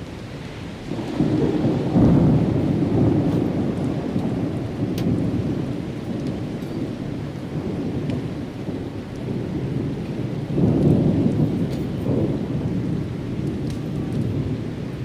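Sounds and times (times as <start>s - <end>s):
rain: 0.0s - 15.0s
thunder rumbling: 0.0s - 15.0s.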